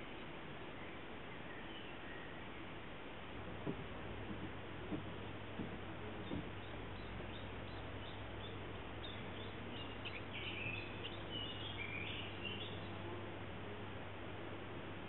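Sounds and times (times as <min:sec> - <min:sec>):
songbird chirping: 0:00.0 - 0:14.6
steady background hiss: 0:00.0 - 0:15.0.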